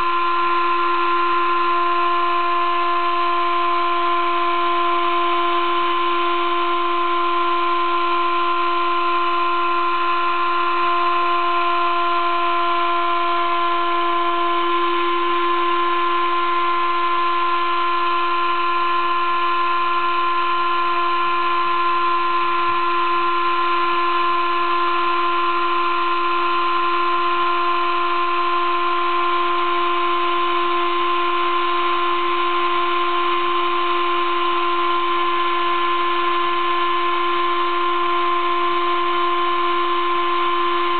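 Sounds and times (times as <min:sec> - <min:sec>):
cnc mill high-pitched whine: 0:00.0 - 0:40.9.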